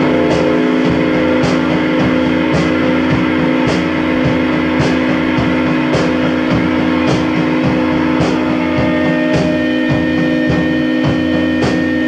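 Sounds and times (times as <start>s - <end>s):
rock music with guitar and drums: 0.0s - 12.0s
vacuum cleaner running: 0.0s - 12.0s.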